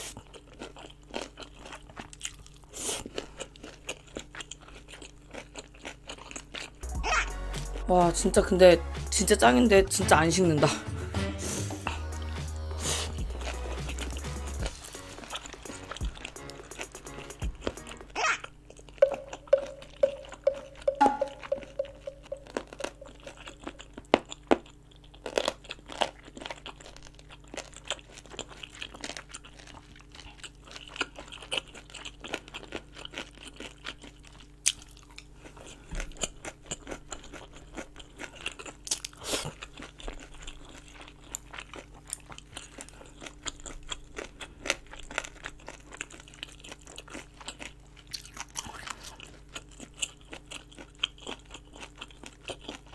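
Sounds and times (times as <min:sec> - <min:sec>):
crunchy chewing and biting: 0:00.0 - 0:07.8, 0:11.9 - 0:21.0, 0:21.6 - 0:52.9.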